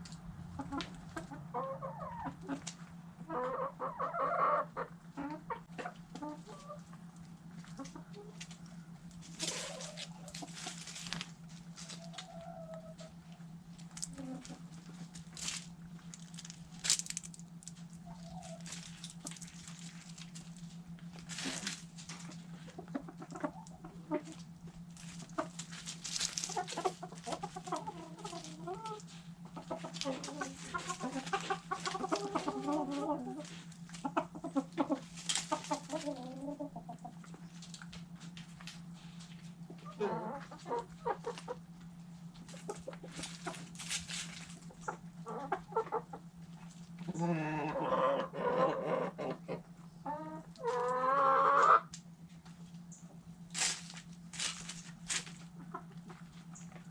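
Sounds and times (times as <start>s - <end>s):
hens clucking: 0.0s - 56.9s
steady low hum: 0.0s - 56.9s.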